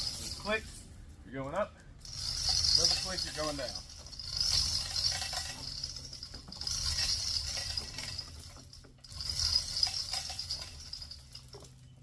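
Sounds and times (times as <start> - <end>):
chain rattling: 0.0 - 12.0.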